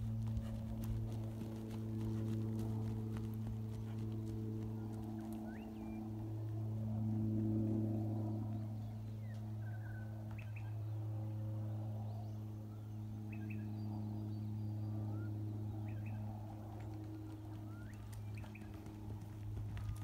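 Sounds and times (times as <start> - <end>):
birds chirping: 0.0 - 6.4, 8.0 - 20.0
steady low hum: 0.0 - 20.0.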